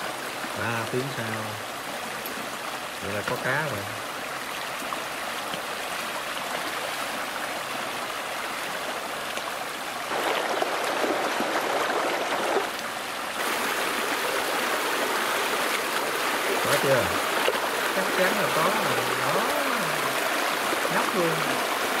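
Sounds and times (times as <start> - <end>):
stream water rushing over rocks: 0.0 - 22.0.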